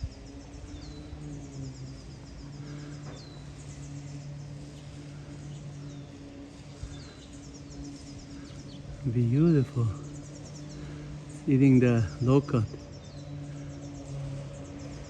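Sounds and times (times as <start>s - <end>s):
birds calling: 0.0s - 15.0s
steady low hum: 0.0s - 15.0s.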